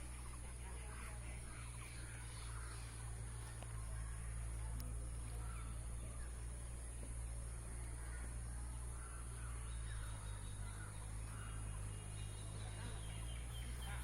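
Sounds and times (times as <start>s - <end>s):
faint bird calls: 0.0s - 14.0s
low hum: 0.0s - 14.0s.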